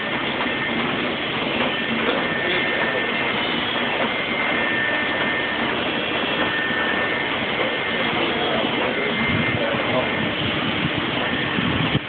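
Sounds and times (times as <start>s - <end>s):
faint high whines: 0.0s - 12.0s
printing press mechanical din: 0.0s - 12.0s.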